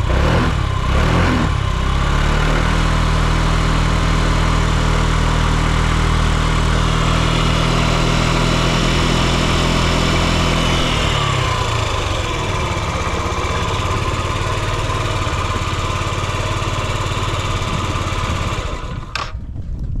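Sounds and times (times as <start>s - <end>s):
scooter engine running: 0.0s - 19.5s.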